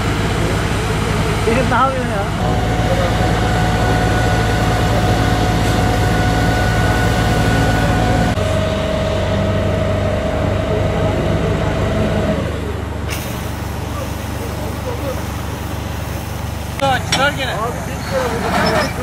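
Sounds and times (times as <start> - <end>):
heavy engine running with whine: 0.0 - 19.0.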